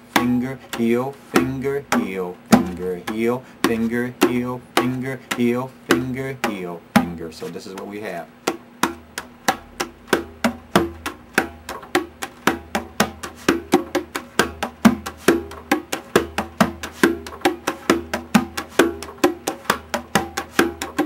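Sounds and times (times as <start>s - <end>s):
congas played by hand: 0.0s - 21.0s.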